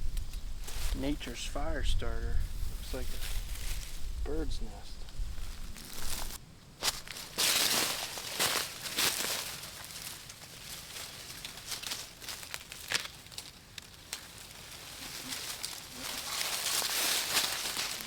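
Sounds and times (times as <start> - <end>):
dry plants rustling and crunching: 0.0 - 18.0.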